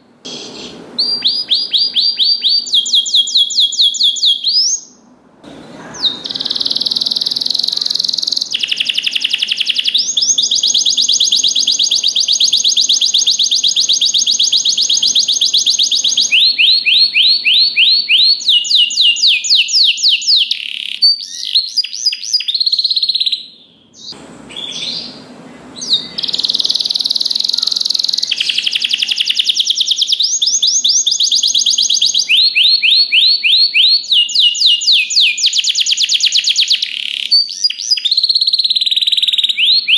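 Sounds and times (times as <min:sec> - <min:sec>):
canary singing trills and chirps: 0:00.2 - 0:05.1, 0:05.8 - 0:39.9.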